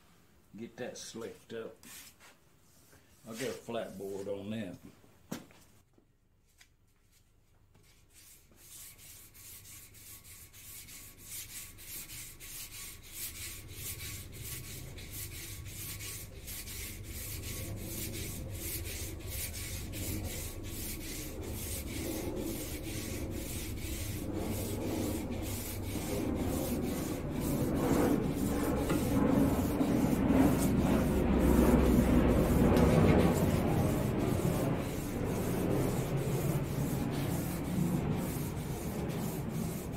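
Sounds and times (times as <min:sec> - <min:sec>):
sanding board rasping on metal: 0:03.3 - 0:03.6, 0:08.2 - 0:39.9.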